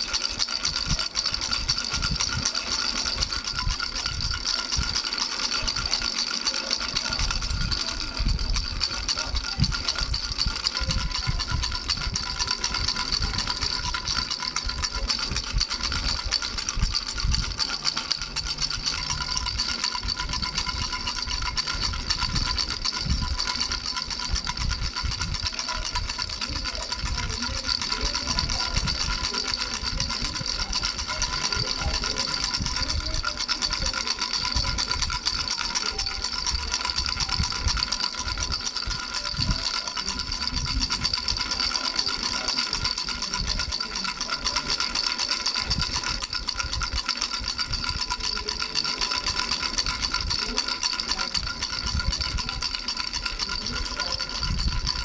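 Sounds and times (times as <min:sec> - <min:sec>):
baby rattle bells jingling: 0:00.0 - 0:55.0.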